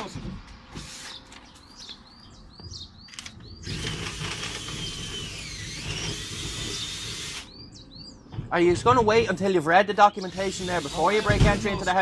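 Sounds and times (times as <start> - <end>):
bird chirping: 0.0 - 5.4, 6.6 - 12.0.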